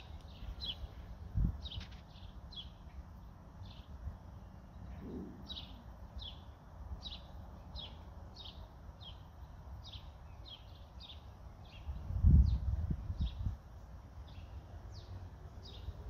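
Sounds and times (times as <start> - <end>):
bird chirping: 0.0 - 13.5, 14.2 - 16.0
low steady rumble: 0.0 - 16.0.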